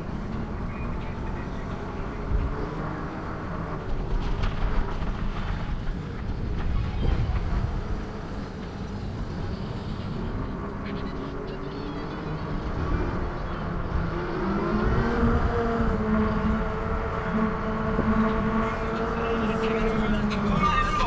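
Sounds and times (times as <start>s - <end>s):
rolling rumble of bicycle: 0.0s - 21.0s
wind rushing over microphone: 0.0s - 21.0s.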